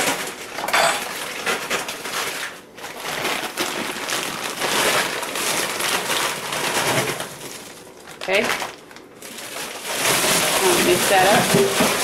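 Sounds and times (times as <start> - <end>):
frozen beans clicking on plastic: 0.0 - 12.0
plastic bag crinkling: 0.0 - 12.0.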